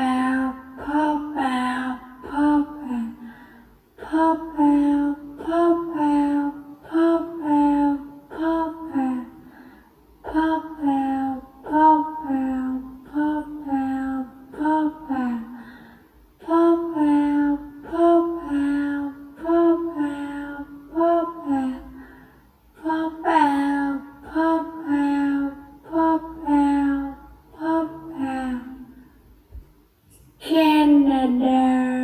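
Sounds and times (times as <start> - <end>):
woman speaking in sing-song tone: 0.0 - 3.3, 4.0 - 9.4, 10.3 - 15.6, 16.4 - 22.0, 22.8 - 28.9, 30.4 - 32.0.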